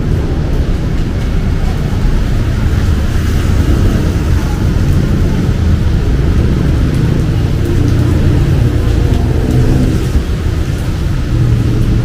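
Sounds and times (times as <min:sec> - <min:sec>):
hiss of rain: 0:00.0 - 0:12.0
low rumble of traffic: 0:00.0 - 0:12.0.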